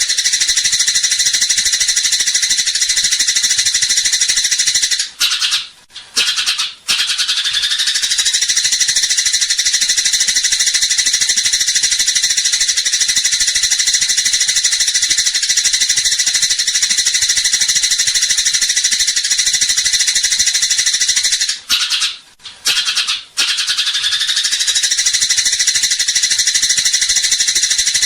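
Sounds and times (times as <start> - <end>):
sparrow chattering: 0.0 - 28.0.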